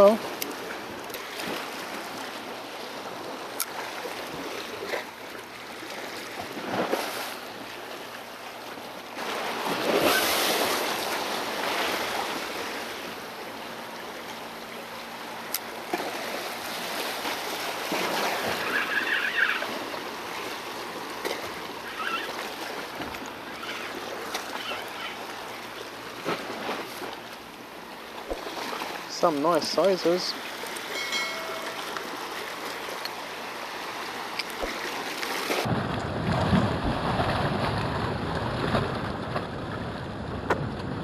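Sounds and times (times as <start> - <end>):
sea waves surging against rocks: 0.0 - 41.0.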